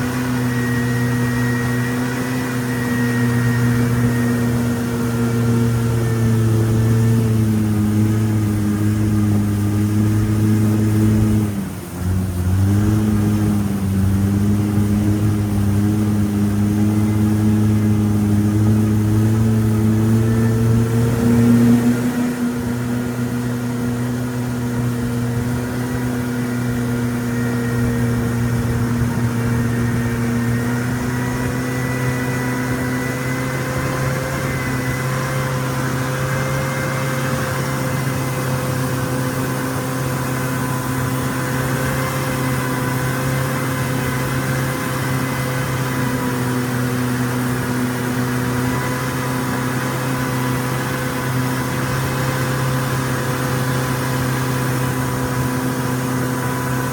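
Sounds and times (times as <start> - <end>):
boat engine running steadily: 0.0 - 56.9.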